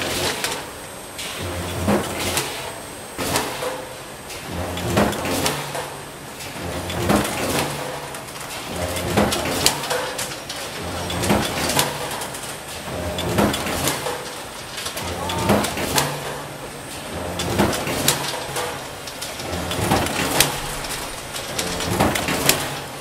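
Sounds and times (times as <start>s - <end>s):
forging press low hum: 0.0s - 23.0s.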